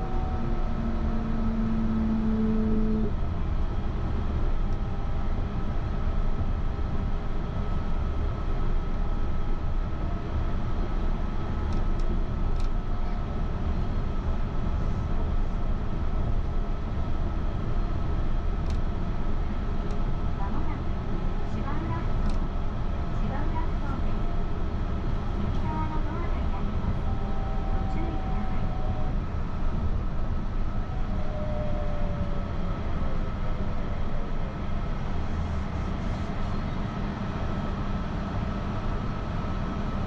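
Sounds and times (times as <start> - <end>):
train low rumble with high tone: 0.0 - 40.0.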